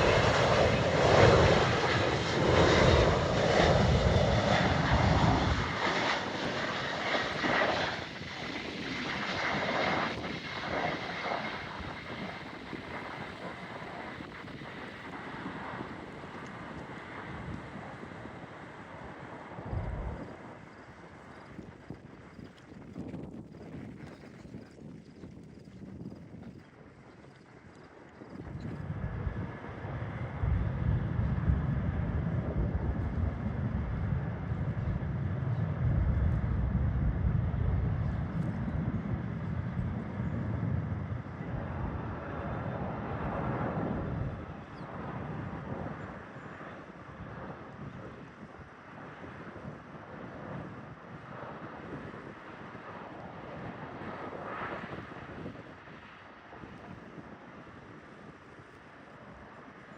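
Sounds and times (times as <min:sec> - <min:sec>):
jet airliner passing: 0:00.0 - 0:24.0, 0:27.9 - 0:59.9.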